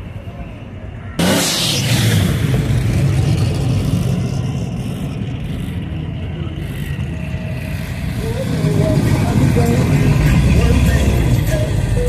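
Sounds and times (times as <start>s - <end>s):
road and wind noise: 0.0s - 12.0s
vehicle engine rumbling: 0.0s - 12.0s.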